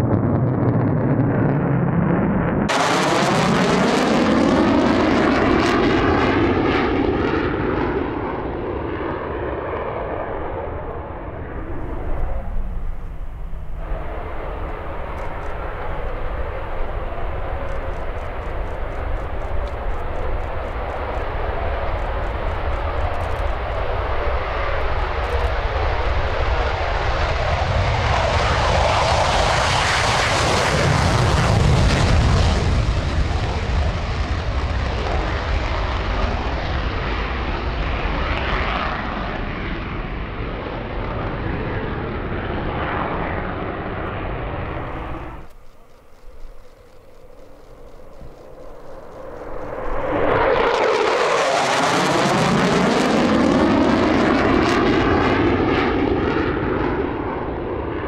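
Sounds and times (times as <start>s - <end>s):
jet engine passing: 0.0s - 58.0s.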